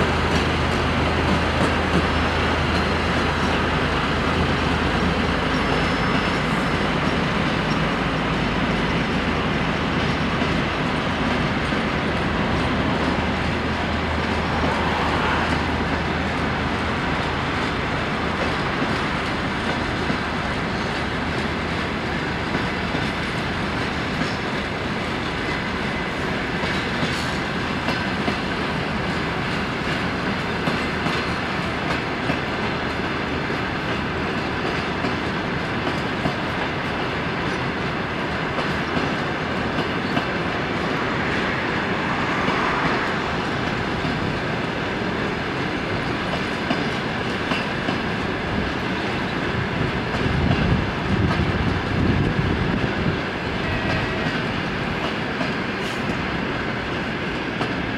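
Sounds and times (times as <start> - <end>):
train rumble: 0.0 - 57.9
train wheels clacking: 0.0 - 57.9.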